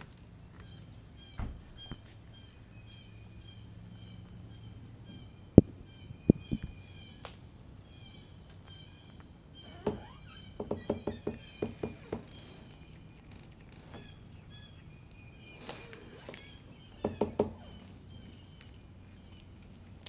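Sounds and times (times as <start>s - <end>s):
birds chirping faintly: 0.1s - 20.0s.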